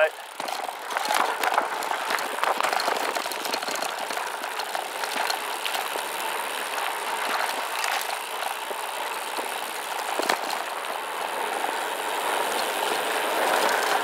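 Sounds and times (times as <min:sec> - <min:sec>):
bike rattling: 0:00.0 - 0:14.0
tyres crunching over gravel: 0:00.0 - 0:14.0.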